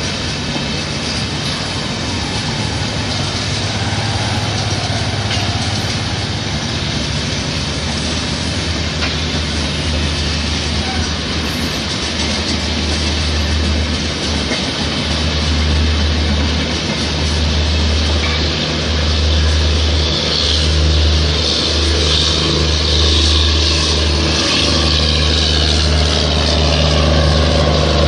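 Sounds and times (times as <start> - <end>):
low train rumble: 0.0 - 28.0
train wheels rushing on rail: 0.0 - 28.0.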